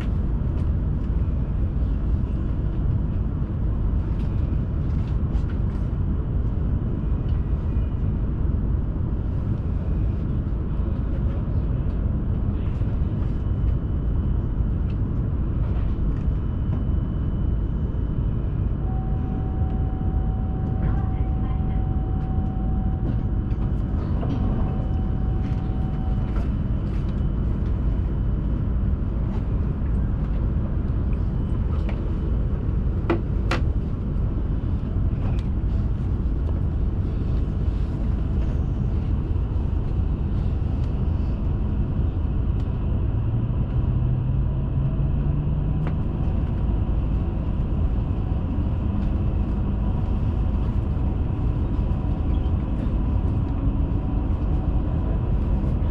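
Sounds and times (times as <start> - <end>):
train cabin rumble: 0.0 - 55.9.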